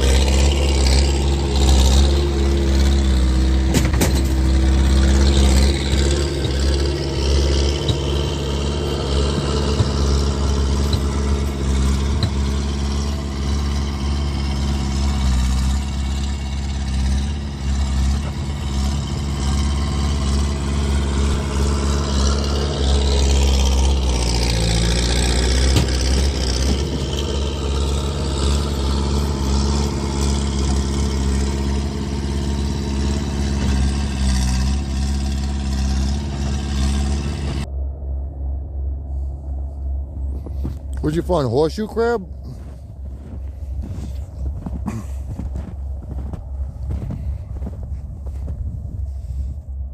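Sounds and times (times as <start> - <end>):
loud skid steer engine running: 0.0 - 37.7, 39.1 - 49.6.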